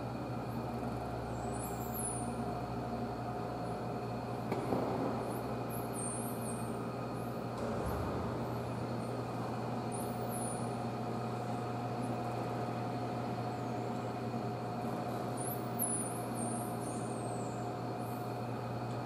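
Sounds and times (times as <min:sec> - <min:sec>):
aquarium machinery hum: 0:00.0 - 0:19.0.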